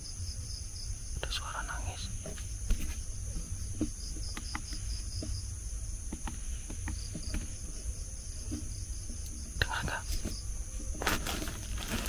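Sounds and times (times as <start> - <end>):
cricket chirping in quick pulses: 0.0 - 12.0
night insects trilling: 0.0 - 12.0.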